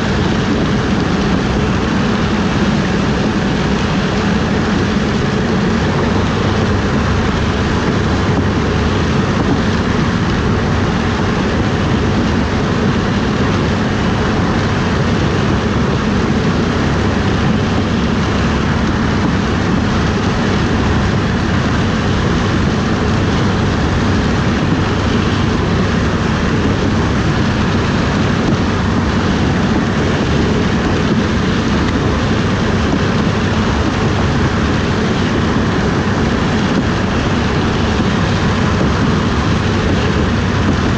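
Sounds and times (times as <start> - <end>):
harvest machine working noise: 0.0 - 40.9
low engine hum: 0.0 - 40.9.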